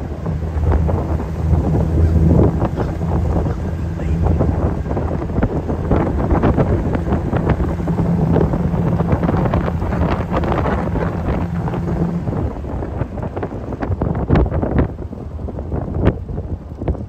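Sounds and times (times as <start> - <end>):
car engine drone: 0.0 - 17.0
wind buffeting microphone: 0.0 - 17.0.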